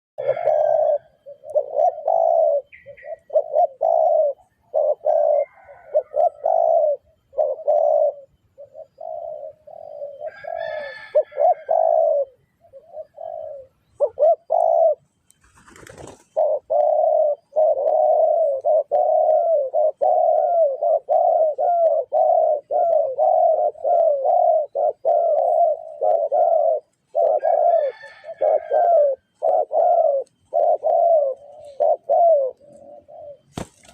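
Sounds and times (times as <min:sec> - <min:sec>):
dove cooing: 0:00.2 - 0:33.9
faint high bird chirps: 0:00.2 - 0:33.9.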